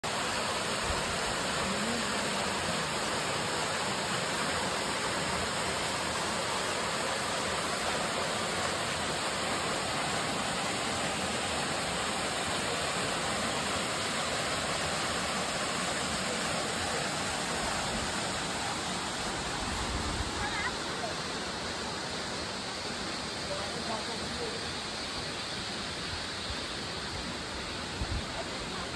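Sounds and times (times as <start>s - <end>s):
waterfall pouring into pool: 0.0s - 28.9s.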